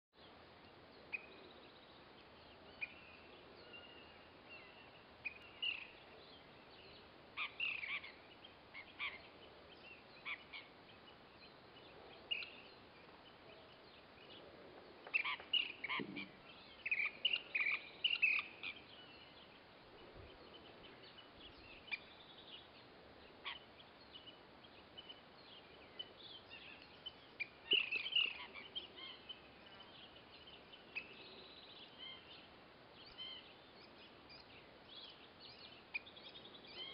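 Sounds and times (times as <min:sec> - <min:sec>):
faint outdoor hiss: 0:00.2 - 0:36.9
small birds chirping: 0:00.2 - 0:36.9.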